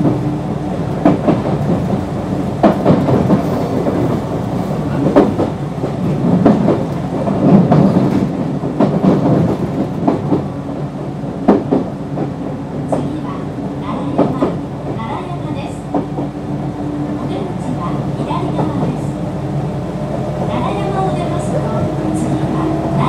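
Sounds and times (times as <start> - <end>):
electric train rumble and hum: 0.0 - 23.0.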